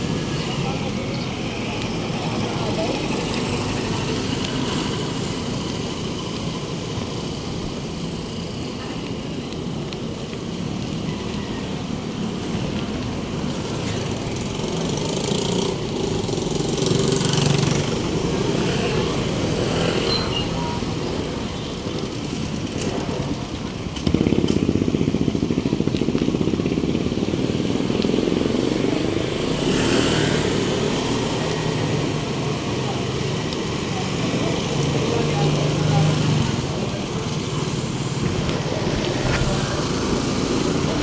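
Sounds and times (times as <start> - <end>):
motorcycle engines running: 0.0 - 41.0
street traffic: 0.0 - 41.0.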